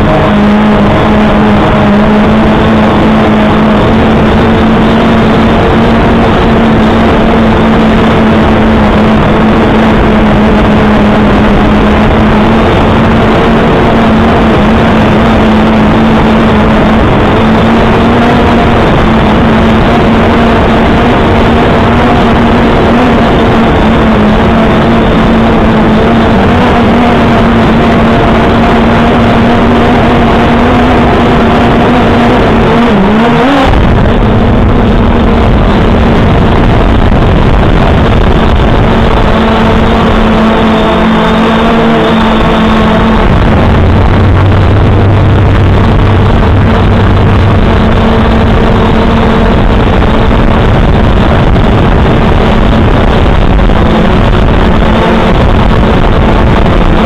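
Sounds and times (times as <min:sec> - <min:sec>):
drone propellers humming: 0:00.0 - 0:57.0
steady rushing noise: 0:00.0 - 0:57.0.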